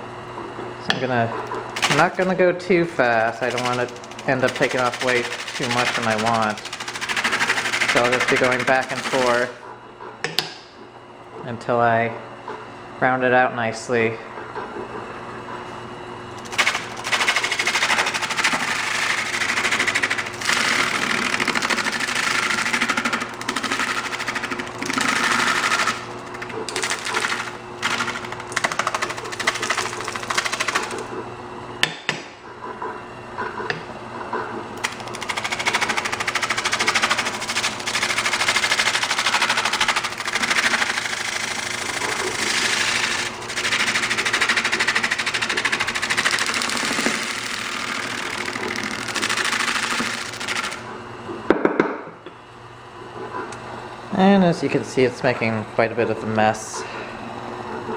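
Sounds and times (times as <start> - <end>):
lathe motor hum: 0.0 - 11.4, 14.2 - 31.7, 32.5 - 51.4.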